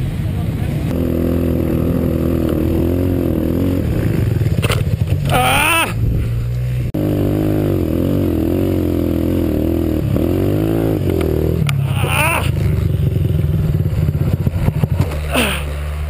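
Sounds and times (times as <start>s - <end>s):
dirt bike engine revving: 0.9s - 16.0s.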